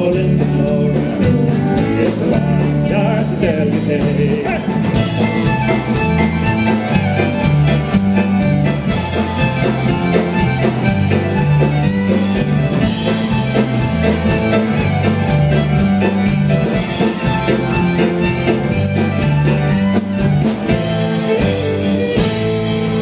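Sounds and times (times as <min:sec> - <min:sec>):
folk-rock band playing: 0:00.0 - 0:23.0.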